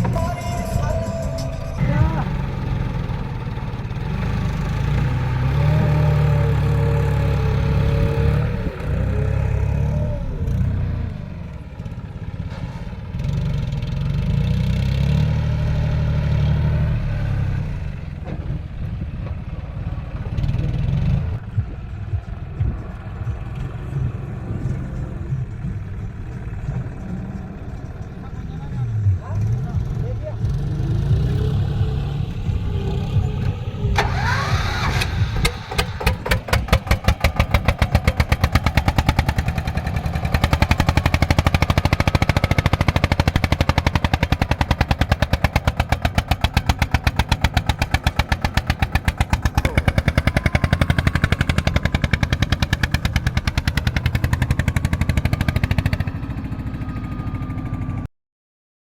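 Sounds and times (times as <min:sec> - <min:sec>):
tractor diesel engine working hard: 0:00.0 - 0:58.1.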